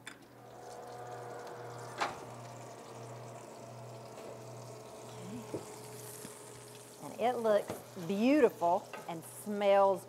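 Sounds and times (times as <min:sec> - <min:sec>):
low hum: 0:00.0 - 0:09.4
meatloaf sizzling in a pan: 0:00.0 - 0:10.0.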